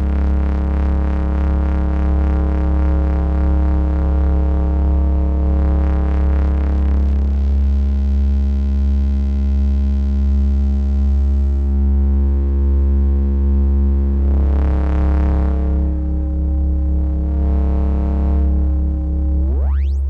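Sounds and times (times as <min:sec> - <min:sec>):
low analog synthesizer drone: 0:00.0 - 0:20.0.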